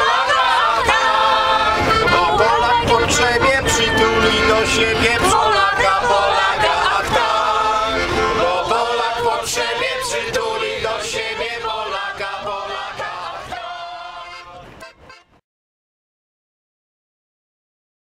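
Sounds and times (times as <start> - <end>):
group of people singing: 0.0 - 14.8.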